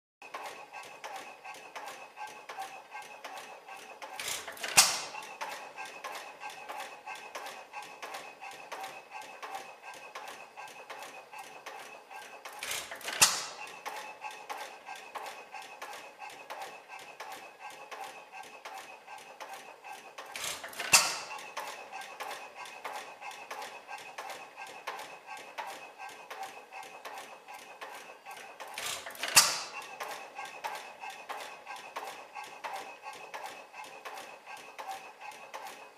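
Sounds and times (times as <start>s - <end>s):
flywheel engine clicking: 0.2s - 35.9s.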